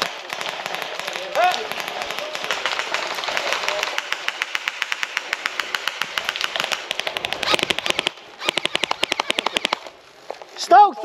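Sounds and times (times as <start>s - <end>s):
airsoft guns firing full-auto: 0.0s - 10.0s.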